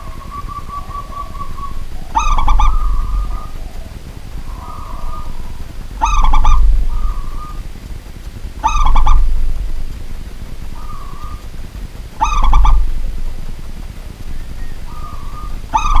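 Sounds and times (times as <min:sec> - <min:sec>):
dove cooing: 0:00.0 - 0:07.8, 0:08.5 - 0:09.8, 0:10.6 - 0:16.0.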